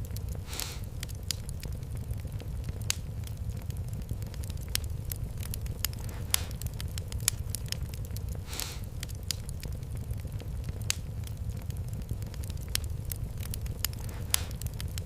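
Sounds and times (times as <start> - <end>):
low rumble of flames: 0.0 - 15.0
sharp pops of burning wood: 0.0 - 15.0
wood fire crackling: 0.0 - 15.0.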